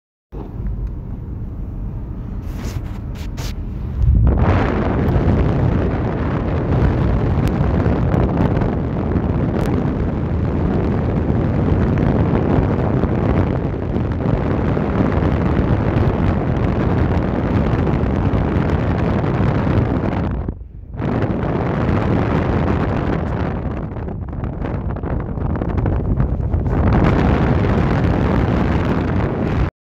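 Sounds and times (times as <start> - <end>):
wind rushing past car: 0.4 - 29.7.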